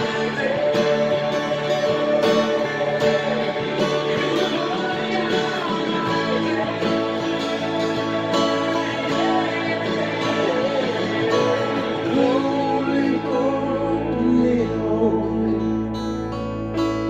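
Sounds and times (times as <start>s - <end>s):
person singing wordless melody: 0.0s - 17.0s
strummed acoustic guitar: 0.0s - 17.0s.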